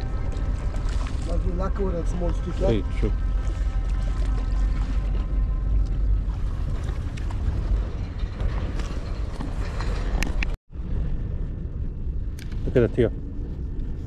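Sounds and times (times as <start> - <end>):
sea: 0.0 - 14.0
wind buffeting microphone: 0.0 - 14.0.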